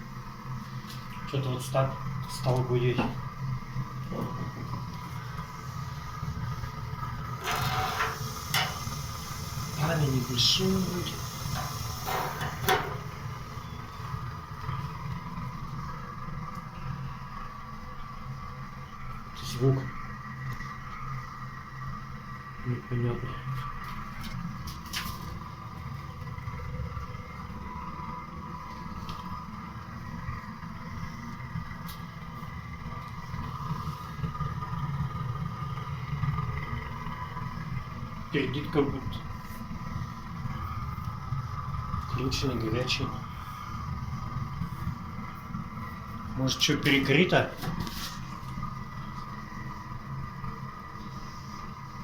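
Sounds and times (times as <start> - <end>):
faint steady whine: 0.0 - 52.0
gas boiler humming: 0.0 - 52.0.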